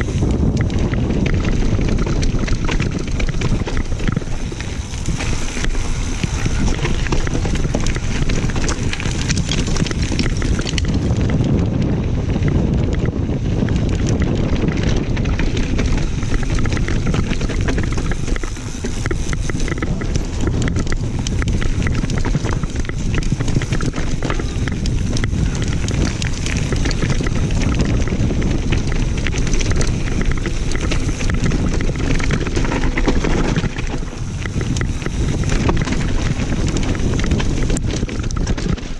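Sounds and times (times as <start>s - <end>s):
bike rattling and knocking: 0.0s - 38.9s
tyres crunching over loose stones: 0.0s - 38.9s
wind buffeting microphone: 0.0s - 38.9s.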